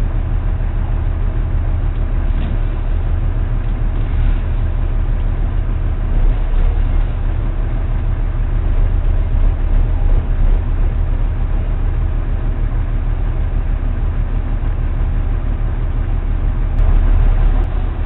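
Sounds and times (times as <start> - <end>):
boat engine low rumble: 0.0 - 18.0.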